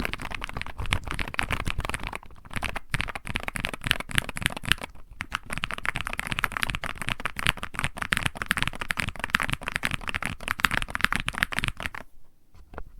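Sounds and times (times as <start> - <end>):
fast typing on mechanical keyboard: 0.0 - 12.0.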